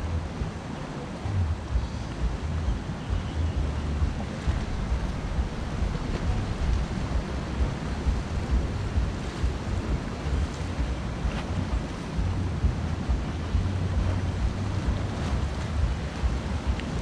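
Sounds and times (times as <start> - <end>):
surf washing on rocky shore: 0.0 - 17.0
wind rumble on microphone: 0.0 - 17.0.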